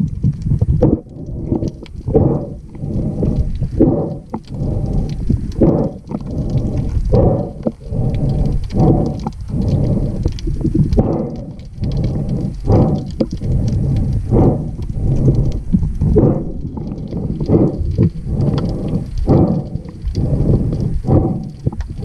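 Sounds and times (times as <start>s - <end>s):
underwater air bubbles rumbling: 0.0s - 22.0s.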